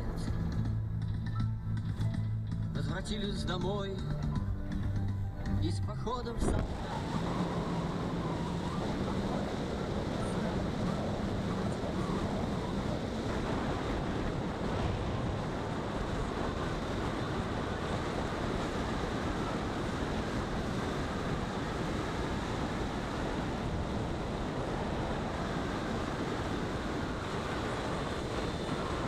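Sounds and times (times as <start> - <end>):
tyre and wind noise: 0.0 - 29.0.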